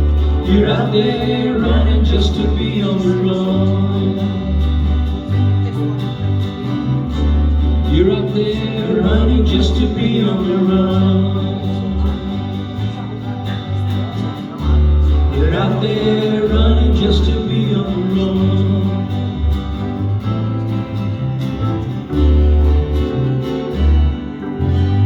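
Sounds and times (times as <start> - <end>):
acoustic guitar: 0.0 - 25.0
country-folk song: 0.0 - 25.0.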